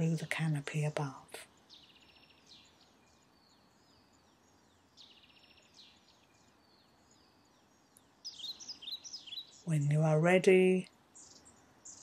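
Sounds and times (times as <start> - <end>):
soft steady hiss: 0.0 - 12.0
songbird singing: 0.0 - 12.0.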